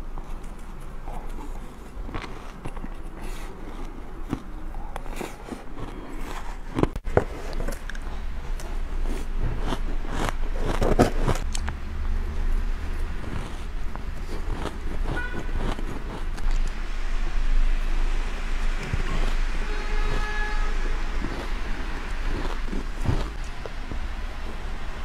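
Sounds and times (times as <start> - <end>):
low hum: 0.0 - 25.0
chewing crunchy ice: 0.2 - 11.8, 12.4 - 16.8, 18.8 - 24.6.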